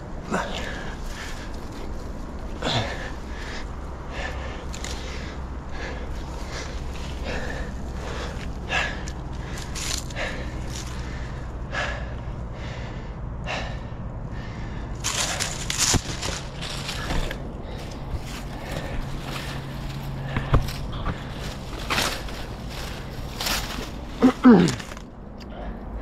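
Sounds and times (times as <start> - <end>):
rustle of branches and dry leaves: 0.0 - 12.8, 14.4 - 26.0
heavy breathing: 0.0 - 26.0.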